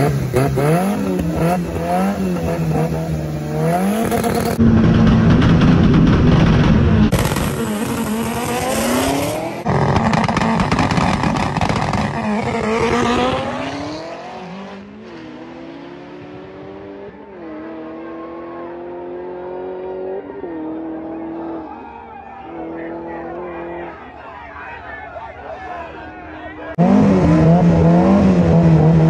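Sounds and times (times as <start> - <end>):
racing car engines revving: 0.0 - 29.0.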